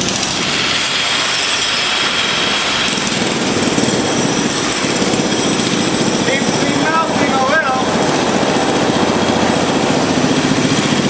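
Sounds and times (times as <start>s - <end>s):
torch flame rushing: 0.0s - 11.0s.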